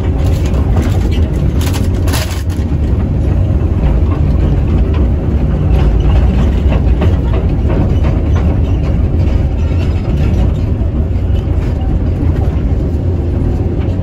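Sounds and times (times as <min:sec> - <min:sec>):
excavator diesel engine drone: 0:00.0 - 0:14.0.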